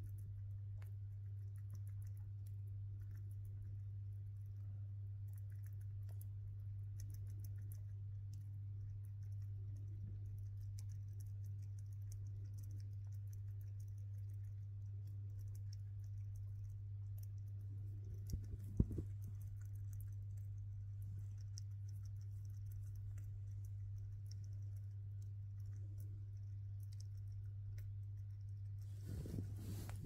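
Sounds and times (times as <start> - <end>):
chipmunk gnawing seeds: 0.0 - 30.0
low hum: 0.0 - 30.0.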